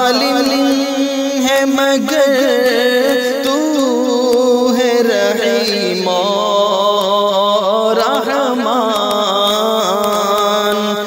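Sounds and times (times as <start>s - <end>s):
man singing ornamented melody: 0.0s - 11.0s.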